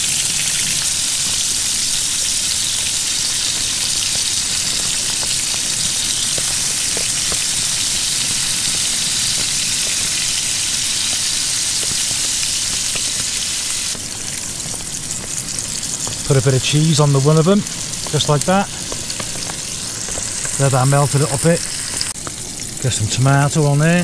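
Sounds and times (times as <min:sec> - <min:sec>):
patties sizzling in oil: 0:00.0 - 0:24.0.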